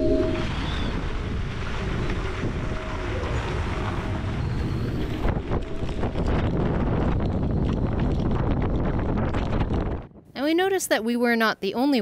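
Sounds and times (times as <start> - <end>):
strong wind on microphone: 0.0 - 10.3.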